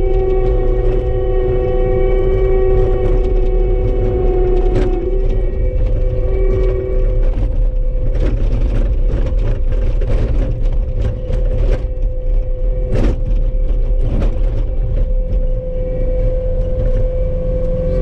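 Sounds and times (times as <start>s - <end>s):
knocks and rattles: 0.0s - 17.2s
loader engine running: 0.0s - 18.0s
steady whine: 0.0s - 18.0s.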